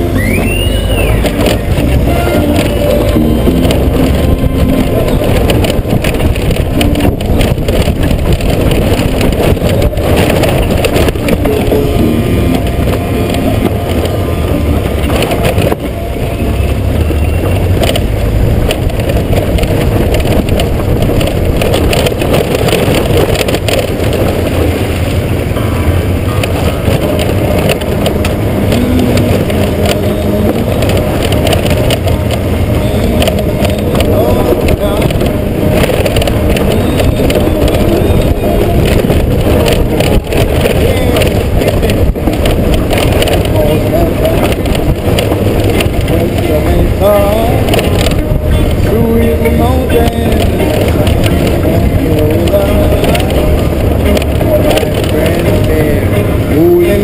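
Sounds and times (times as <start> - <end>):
motorcycle engine running: 0.0 - 57.0
tyres rolling over gravel: 0.0 - 57.0
wind buffeting microphone: 0.0 - 57.0.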